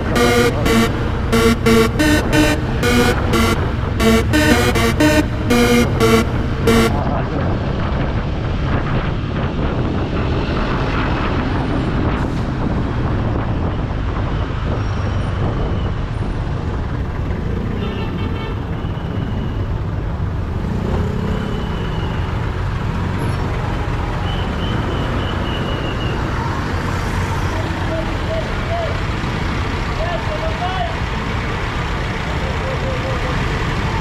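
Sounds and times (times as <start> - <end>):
road and wind noise: 0.0 - 4.0, 4.6 - 34.0
traffic: 0.0 - 34.0.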